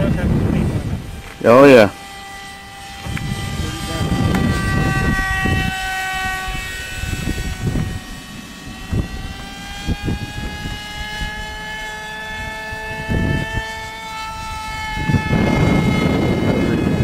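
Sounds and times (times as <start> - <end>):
model airplane motor whining: 0.0 - 17.0
wind buffeting microphone: 0.0 - 17.0.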